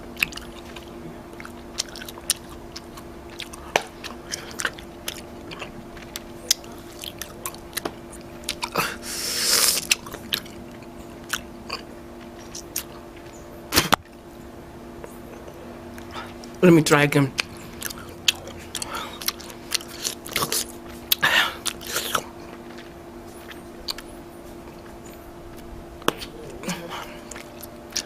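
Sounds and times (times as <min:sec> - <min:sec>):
gum chewing wet smacks: 0:00.1 - 0:14.2, 0:15.0 - 0:16.6, 0:17.3 - 0:28.0.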